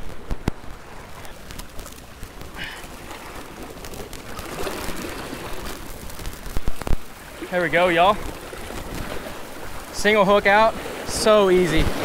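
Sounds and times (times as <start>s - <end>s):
seawater splashing among rocks: 0.0s - 12.0s.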